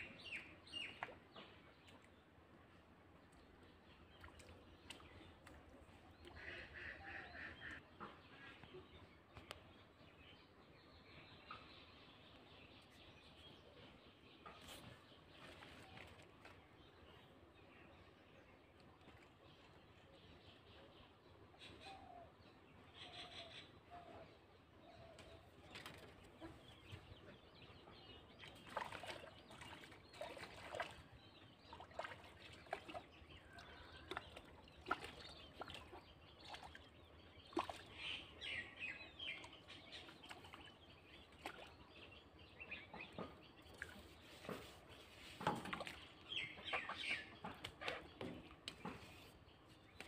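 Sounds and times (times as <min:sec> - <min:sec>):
birds calling: 0:06.1 - 0:18.2, 0:21.5 - 0:50.0.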